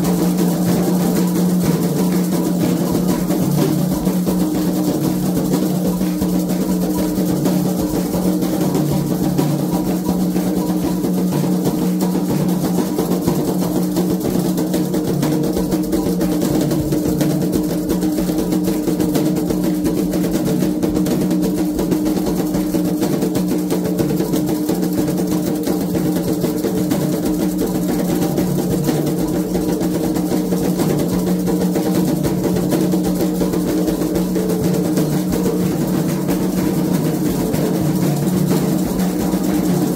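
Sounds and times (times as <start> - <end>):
hand drums playing fast rhythm: 0.0 - 39.9.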